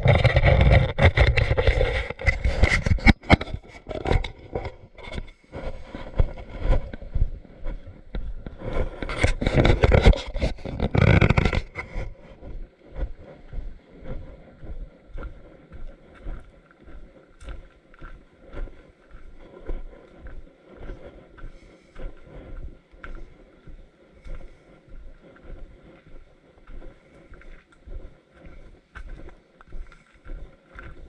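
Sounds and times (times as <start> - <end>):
hiker's footsteps: 0.0 - 31.0.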